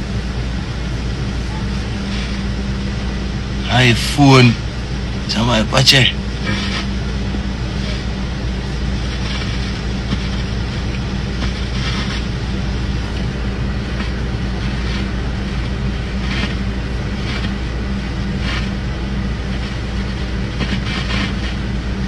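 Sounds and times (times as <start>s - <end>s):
engine running low rumble: 0.0s - 22.0s.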